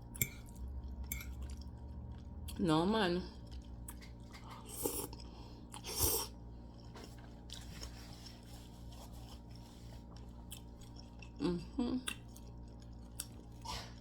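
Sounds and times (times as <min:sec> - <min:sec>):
person chewing: 0:00.0 - 0:02.6, 0:03.4 - 0:14.0
low steady hum: 0:00.0 - 0:14.0.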